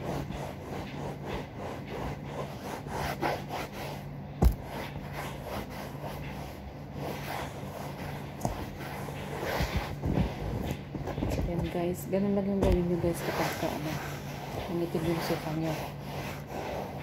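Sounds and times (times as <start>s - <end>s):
cloth scrubbing upholstery: 0.0s - 17.0s.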